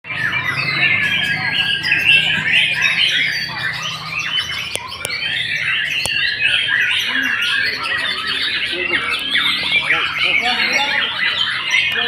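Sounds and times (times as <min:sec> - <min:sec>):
bird singing whistles and chatter: 0:00.1 - 0:12.0.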